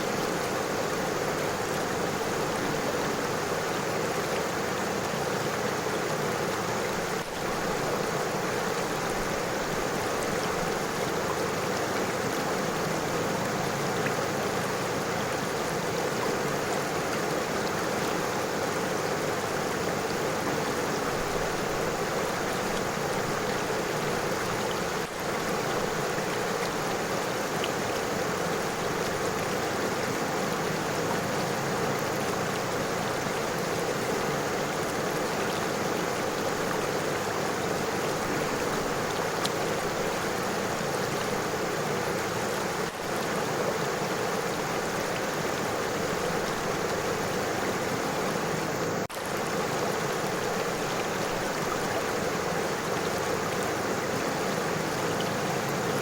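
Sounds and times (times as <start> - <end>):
river flowing over stones: 0.0 - 56.0.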